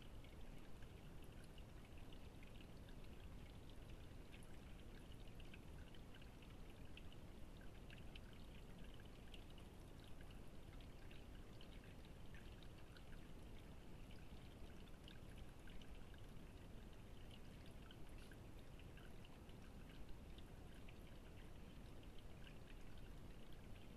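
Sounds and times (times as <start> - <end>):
water drips and splashes: 0.0 - 23.9
water feature trickling: 0.0 - 23.9.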